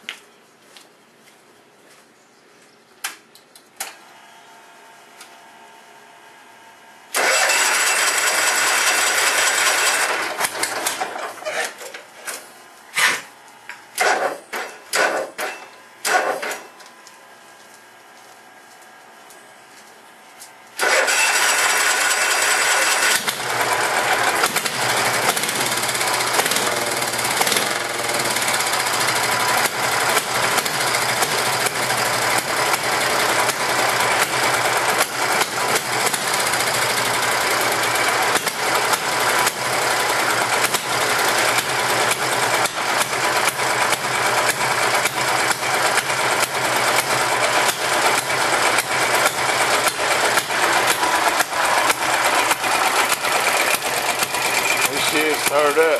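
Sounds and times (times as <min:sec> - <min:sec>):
tractor engine starting and running: 0:03.8 - 0:55.9.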